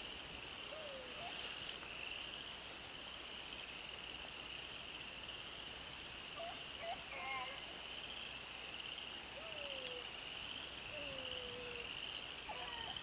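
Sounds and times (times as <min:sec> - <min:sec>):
insects trilling: 0:00.1 - 0:13.0.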